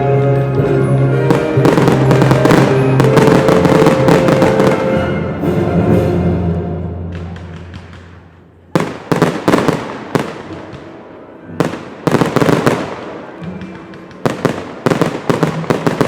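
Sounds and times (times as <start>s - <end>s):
faint music: 0.0s - 16.0s
fireworks bursting with sharp bangs: 1.2s - 5.2s, 7.1s - 16.0s.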